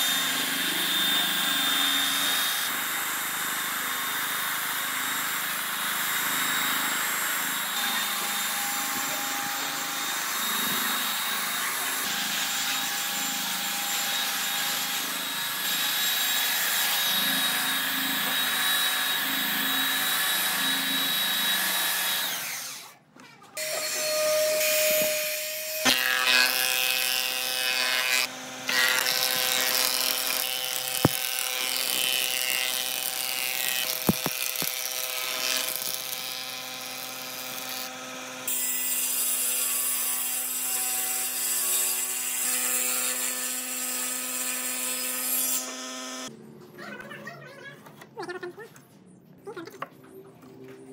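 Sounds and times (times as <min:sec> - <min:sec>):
power tools cutting wood: 0:00.0 - 0:23.0, 0:23.6 - 0:46.3.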